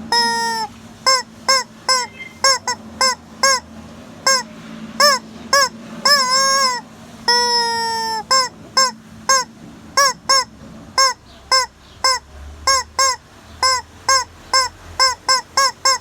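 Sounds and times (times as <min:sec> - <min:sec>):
hen squawking: 0:00.0 - 0:16.0.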